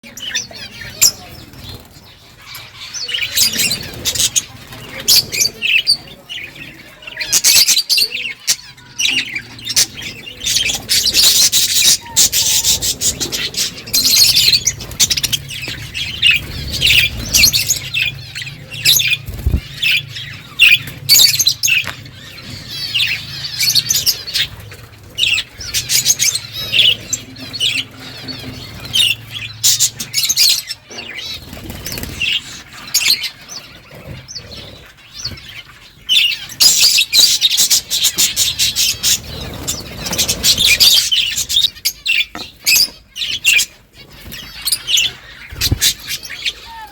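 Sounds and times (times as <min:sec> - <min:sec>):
budgerigars chirping: 0:00.1 - 0:46.9.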